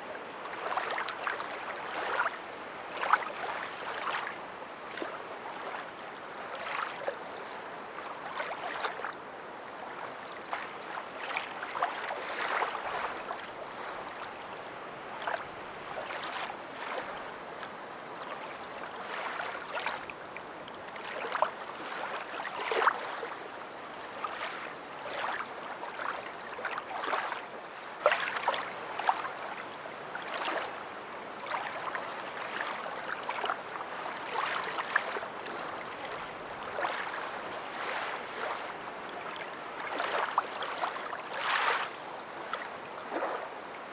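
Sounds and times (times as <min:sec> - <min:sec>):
water lapping and splashing: 0:00.3 - 0:43.9.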